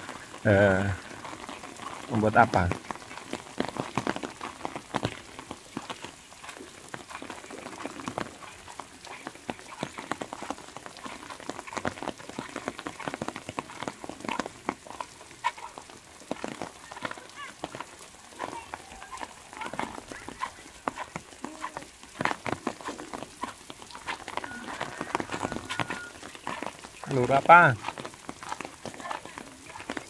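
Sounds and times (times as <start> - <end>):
light rain falling: 0.0 - 30.0
raindrops ticking: 0.0 - 30.0.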